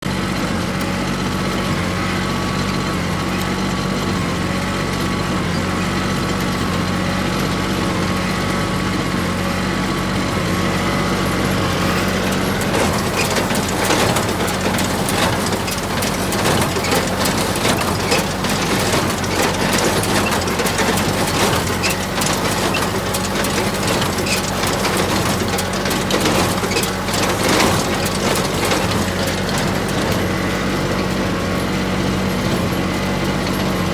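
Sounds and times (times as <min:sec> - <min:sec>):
hay baler clattering and knocking: 0:00.0 - 0:33.9
tractor engine running: 0:00.0 - 0:33.9.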